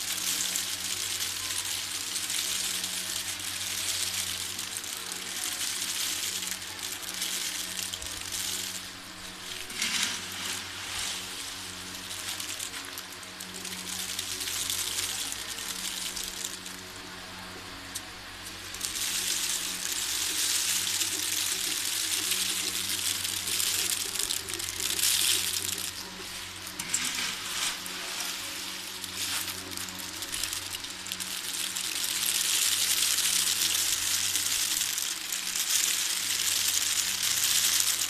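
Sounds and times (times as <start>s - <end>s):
fan motor humming: 0.0s - 38.0s
peanuts pouring onto heap: 0.0s - 38.0s.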